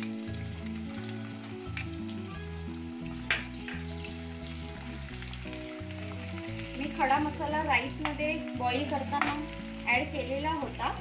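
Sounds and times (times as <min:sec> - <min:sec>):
background music low notes: 0:00.0 - 0:11.0
onions sizzling in hot oil: 0:00.0 - 0:11.0.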